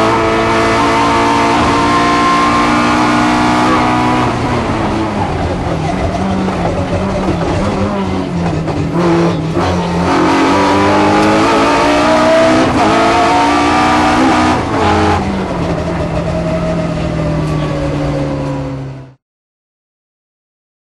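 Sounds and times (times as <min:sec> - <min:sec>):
race car engine revving: 0:00.0 - 0:18.1.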